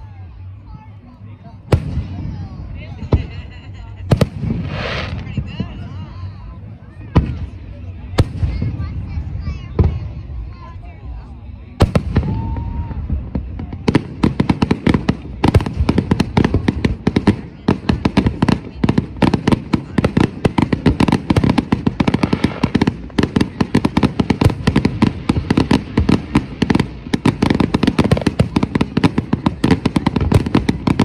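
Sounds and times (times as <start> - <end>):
fireworks bursting: 1.6 - 31.0.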